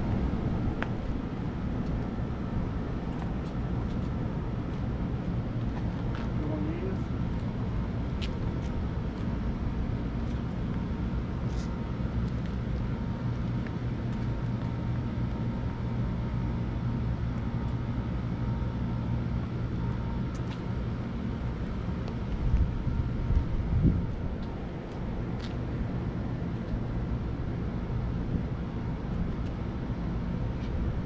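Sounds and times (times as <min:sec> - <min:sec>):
faint steady hum: 0:00.0 - 0:31.0
low outdoor rumble: 0:00.0 - 0:31.0.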